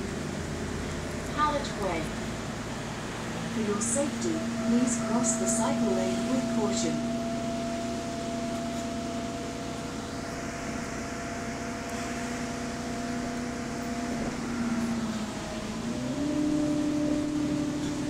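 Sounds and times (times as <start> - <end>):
bus engine and road noise: 0.0 - 18.0
drivetrain whining: 0.0 - 18.0.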